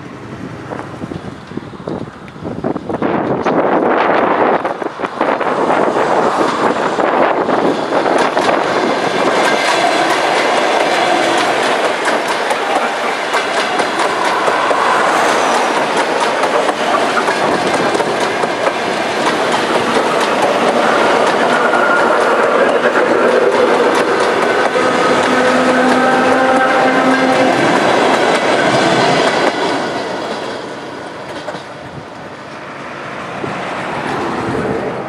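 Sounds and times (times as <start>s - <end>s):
train running past: 0.0s - 35.0s
wheels clicking over rail joints: 0.7s - 32.7s.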